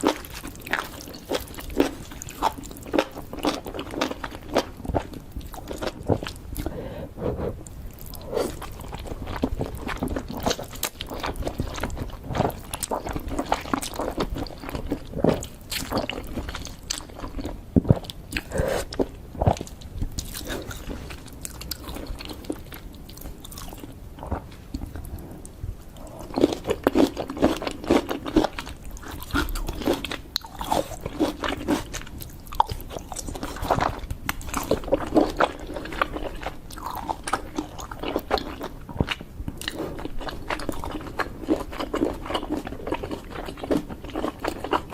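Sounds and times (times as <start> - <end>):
person chewing crunchy sweets: 0.0 - 44.9.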